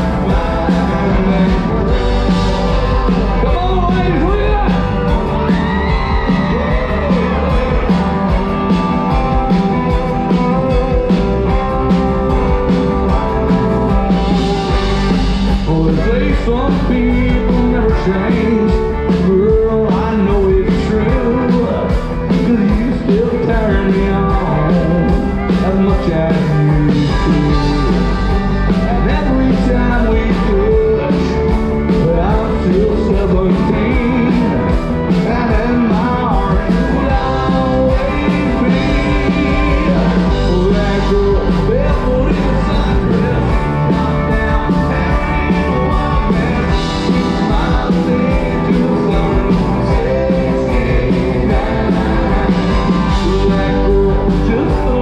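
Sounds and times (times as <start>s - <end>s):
lead vocal: 0.0s - 55.0s
live country band playing: 0.0s - 55.0s.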